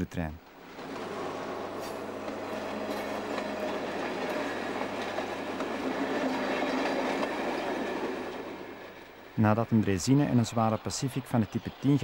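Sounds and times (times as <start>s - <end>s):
train rolling on track: 0.4s - 12.0s.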